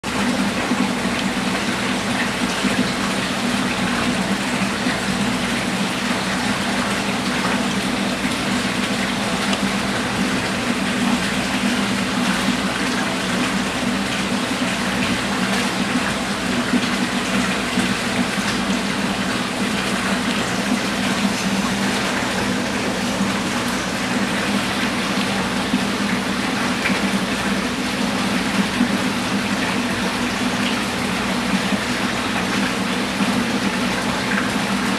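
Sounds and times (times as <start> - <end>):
aquarium water rushing: 0.0 - 34.9
pump low hum: 0.0 - 34.9.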